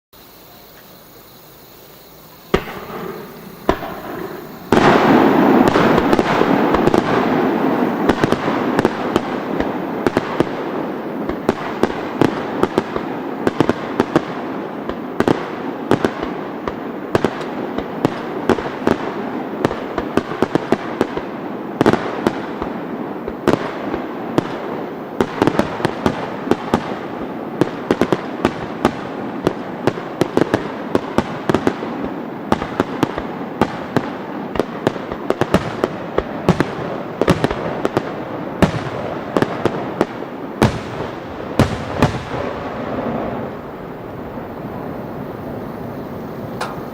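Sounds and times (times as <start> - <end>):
fireworks barrage: 0.2 - 46.9
single firework bangs: 2.0 - 46.9.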